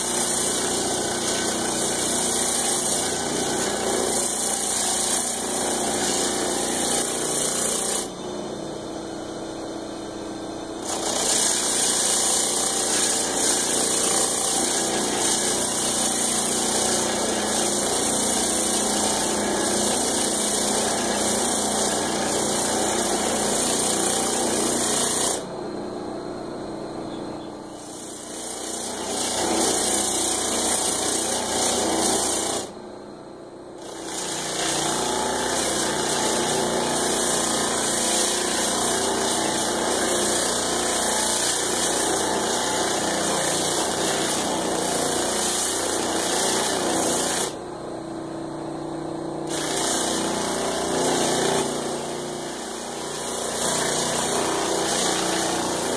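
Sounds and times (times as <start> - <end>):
drum sander grinding wood: 0.0 - 8.8, 10.8 - 25.5, 27.8 - 32.7, 33.8 - 47.6, 49.4 - 55.9.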